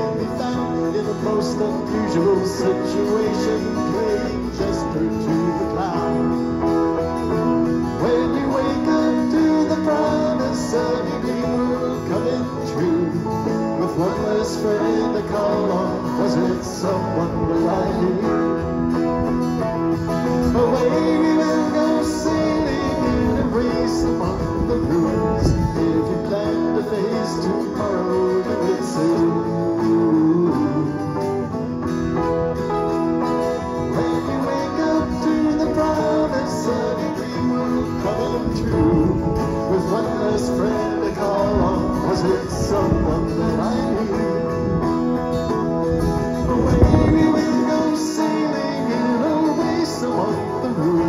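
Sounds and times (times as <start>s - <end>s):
electric guitar strummed and picked: 0.0s - 51.0s.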